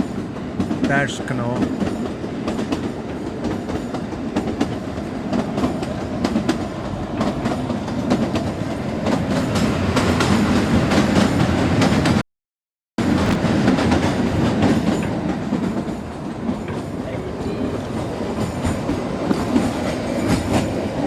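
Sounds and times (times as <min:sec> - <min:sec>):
train rumbling: 0:00.0 - 0:12.2, 0:13.0 - 0:21.0.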